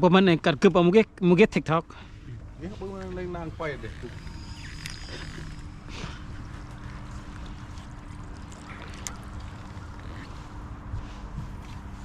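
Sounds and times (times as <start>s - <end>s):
boat motor running: 2.2s - 12.0s.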